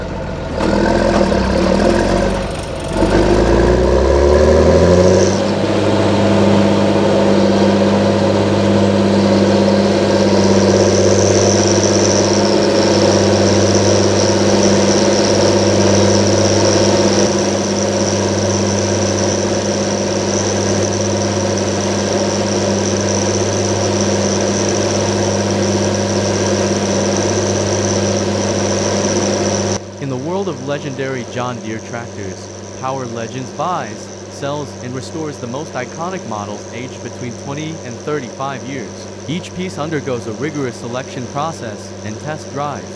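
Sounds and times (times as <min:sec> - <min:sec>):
tractor diesel engine revving: 0:00.0 - 0:42.9.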